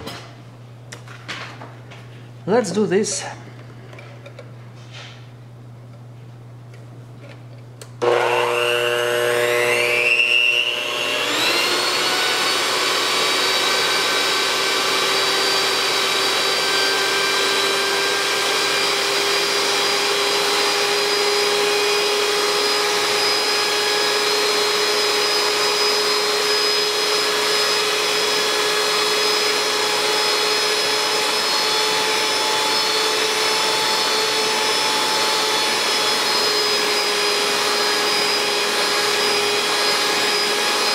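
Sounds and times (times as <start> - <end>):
electric hand mixer whining: 8.0 - 40.9.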